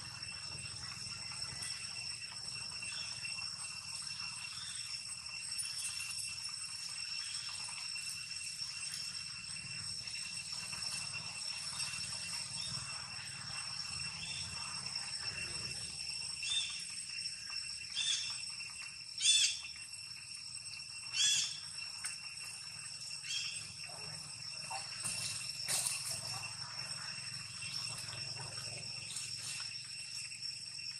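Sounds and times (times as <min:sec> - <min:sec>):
high-pitched insect drone: 0:00.0 - 0:30.9.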